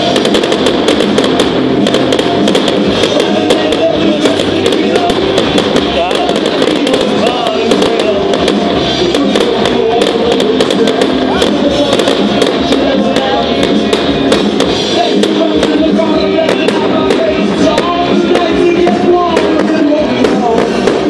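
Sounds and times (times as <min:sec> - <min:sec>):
fireworks bangs and crackles: 0:00.0 - 0:21.0
loud music: 0:00.0 - 0:21.0.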